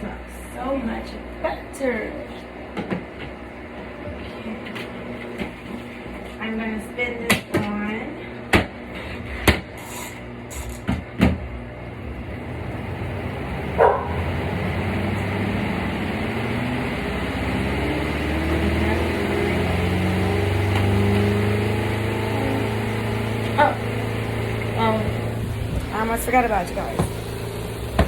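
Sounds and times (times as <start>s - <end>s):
spin dryer motor humming: 0.0s - 28.0s.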